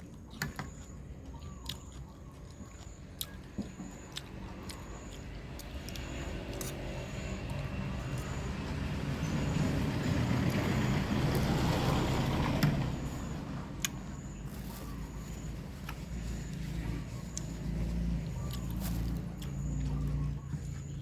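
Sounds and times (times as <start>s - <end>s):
vehicle passing by: 4.1s - 21.0s.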